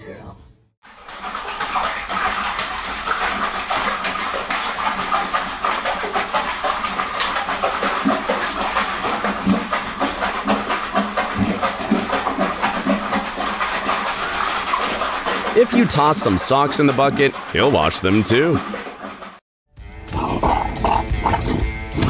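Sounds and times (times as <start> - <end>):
dog paddling in water: 0.9 - 19.4.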